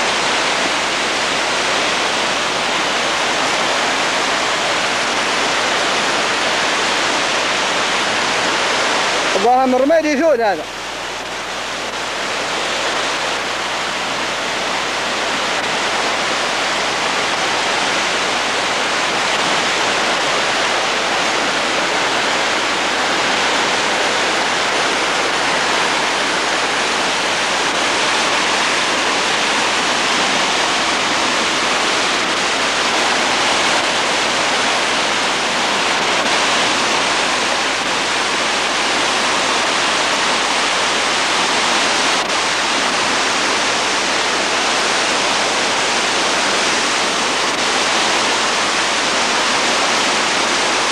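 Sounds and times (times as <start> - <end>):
flood water rushing: 0.0 - 50.9.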